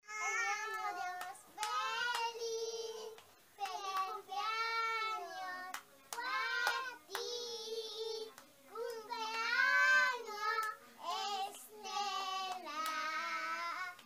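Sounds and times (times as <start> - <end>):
girls singing: 0.1 - 14.0
hands clapping: 0.4 - 7.5, 8.2 - 14.0.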